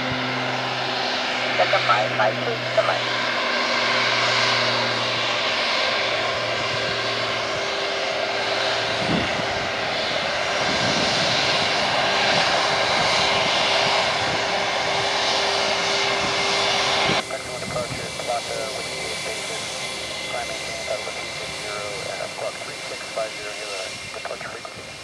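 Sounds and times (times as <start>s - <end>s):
jet engines taking off: 0.0s - 25.0s.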